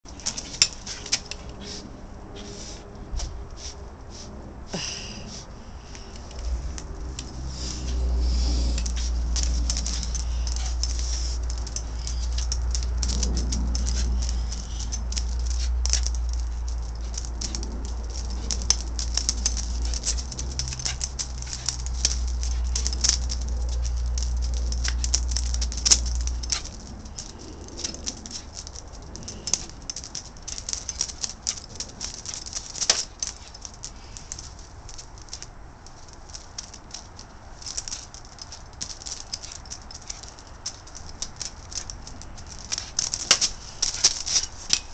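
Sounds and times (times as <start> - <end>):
dog claws clicking on concrete: 0.0 - 4.4, 5.2 - 44.9
broom bristles scraping: 0.0 - 44.9
steady low rumble: 0.0 - 44.9.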